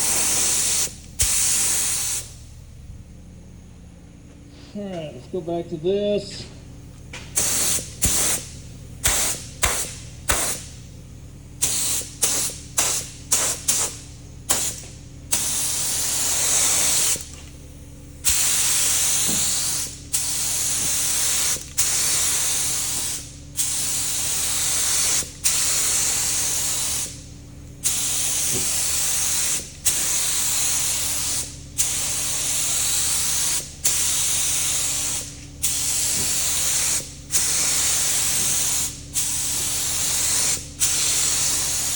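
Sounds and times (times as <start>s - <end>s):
paint spray gun hissing: 0.0s - 2.4s, 7.2s - 10.8s, 11.6s - 17.4s, 18.2s - 27.2s, 27.8s - 41.9s.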